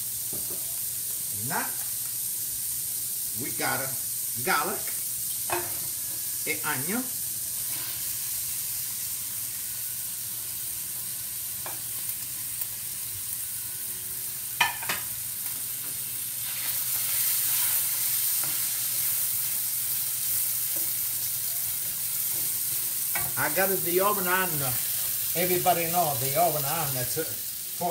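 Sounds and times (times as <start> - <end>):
onion and garlic sizzling in oil: 0.0 - 27.9.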